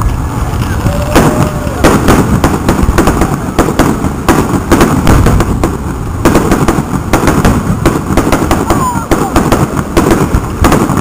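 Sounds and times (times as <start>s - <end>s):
continuous low rumble: 0.0s - 11.0s
firework shells bursting: 0.0s - 11.0s.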